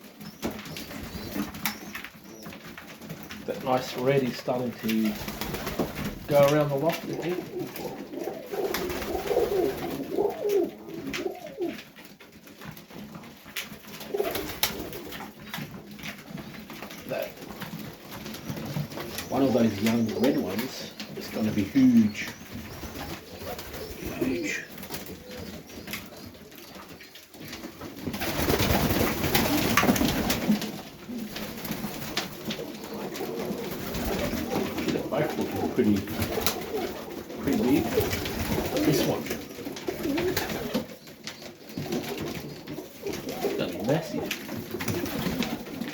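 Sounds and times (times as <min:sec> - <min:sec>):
rustling and clicking knocks: 0:00.0 - 0:24.0, 0:24.7 - 0:45.9
pigeons cooing: 0:00.0 - 0:45.9.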